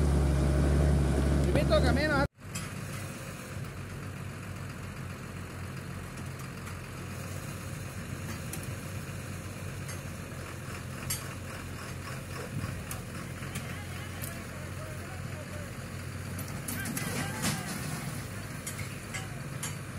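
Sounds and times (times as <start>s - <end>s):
tractor diesel engine idling: 0.0s - 19.9s.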